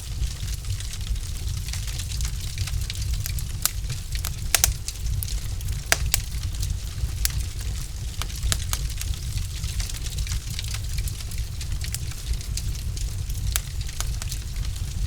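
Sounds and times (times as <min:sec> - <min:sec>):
burning logs popping and snapping: 0:00.0 - 0:15.0
low fire rumble: 0:00.0 - 0:15.0.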